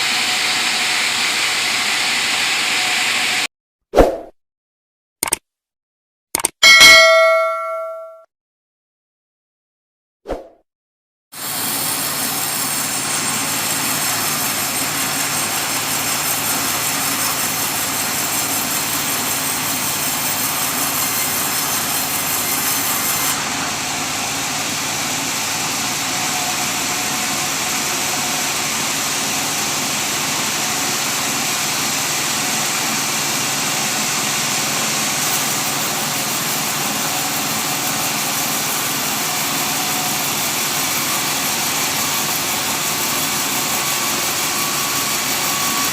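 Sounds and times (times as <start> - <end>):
sawmill machine drone: 0.0 - 3.5, 11.4 - 45.9.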